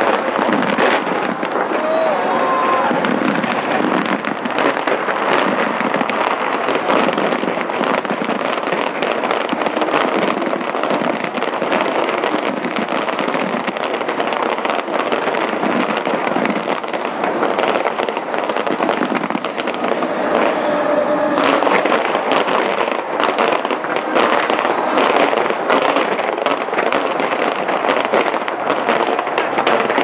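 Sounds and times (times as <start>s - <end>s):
fireworks crackling: 0.0s - 30.0s.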